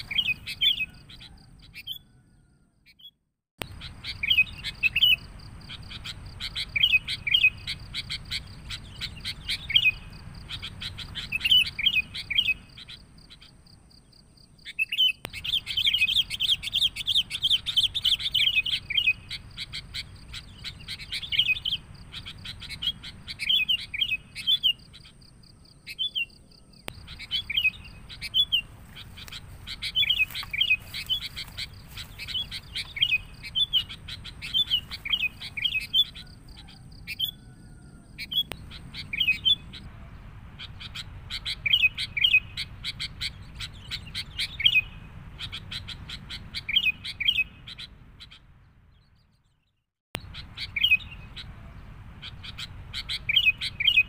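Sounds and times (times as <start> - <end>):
bulbuls chirping: 0.0 - 54.0.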